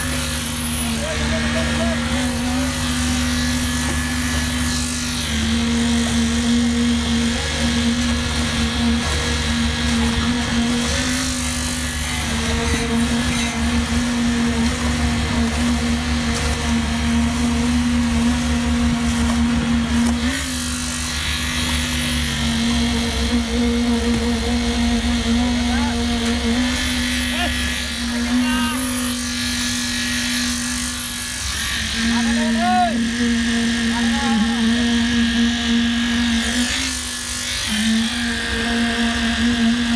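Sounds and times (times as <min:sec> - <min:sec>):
concrete vibrator motor humming: 0:00.0 - 0:39.9.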